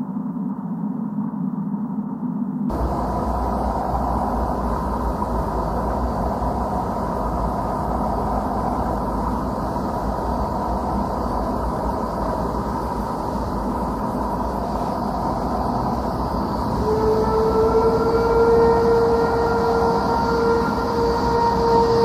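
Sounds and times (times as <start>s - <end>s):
low rumble with hiss: 0.0s - 22.0s.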